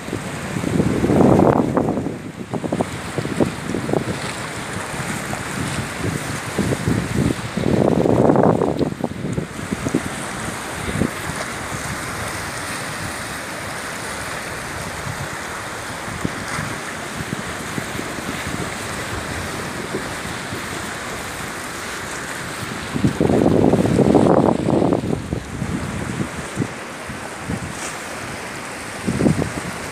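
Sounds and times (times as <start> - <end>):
sea surf on rocky shore: 0.0 - 29.9
wind buffeting microphone: 0.0 - 29.9.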